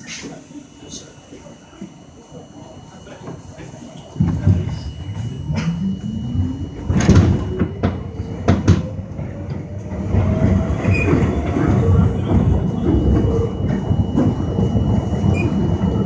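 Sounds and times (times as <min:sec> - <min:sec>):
subway car rumble: 0:00.0 - 0:16.0
traction motors whining: 0:00.0 - 0:16.0.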